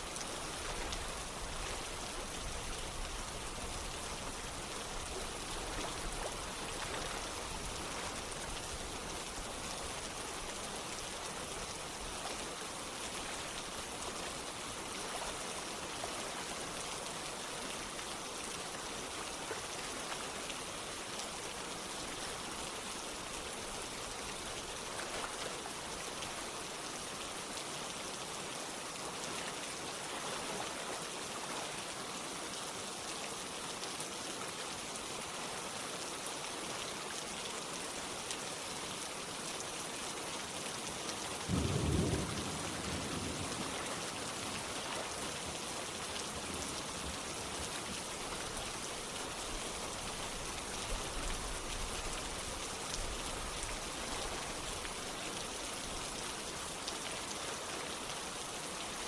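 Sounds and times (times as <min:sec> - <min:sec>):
running water: 0:00.0 - 0:59.0
steady rain: 0:00.0 - 0:59.0.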